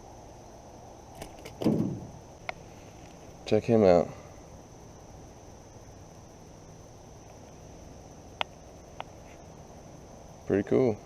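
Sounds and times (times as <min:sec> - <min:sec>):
insect chorus buzzing: 0:00.0 - 0:11.0.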